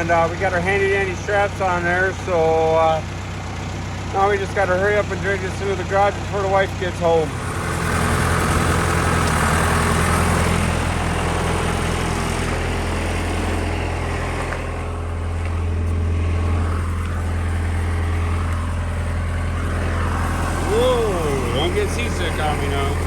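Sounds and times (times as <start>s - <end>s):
vehicle engine running at low speed: 0.0s - 23.0s.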